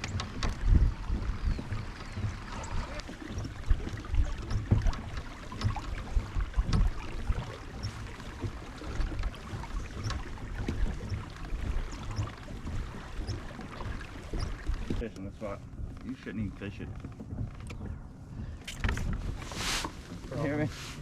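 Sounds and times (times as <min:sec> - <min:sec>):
wind buffeting microphone: 0:00.0 - 0:20.7
water lapping against kayak: 0:00.0 - 0:21.0.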